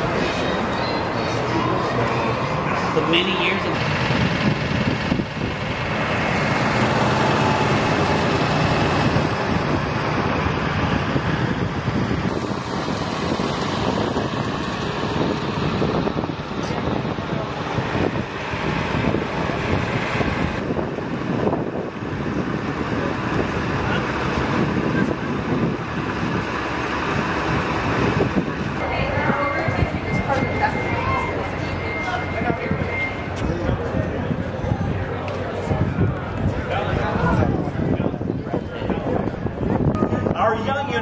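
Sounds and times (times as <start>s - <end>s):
large buses running: 0.0s - 41.0s
wind noise on microphone: 3.7s - 41.0s.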